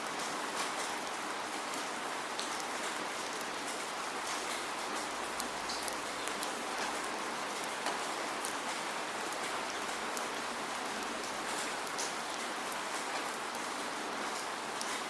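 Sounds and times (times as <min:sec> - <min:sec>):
rain falling: 0:00.0 - 0:15.0
raindrops pattering on a surface: 0:00.0 - 0:15.0.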